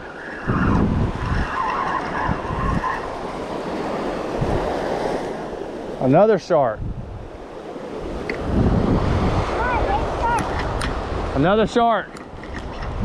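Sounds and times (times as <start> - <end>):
surf washing: 0.0 - 13.0
wind buffeting microphone: 0.0 - 13.0.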